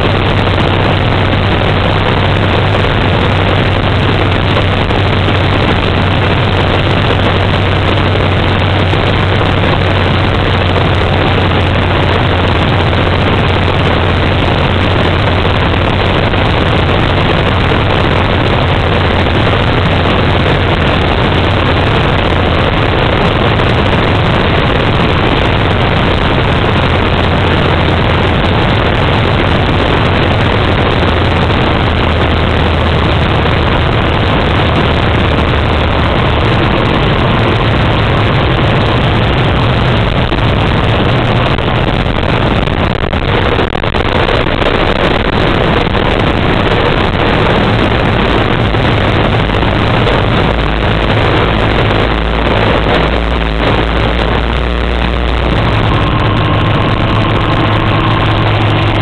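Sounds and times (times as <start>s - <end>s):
propeller engine drone: 0.0s - 59.0s.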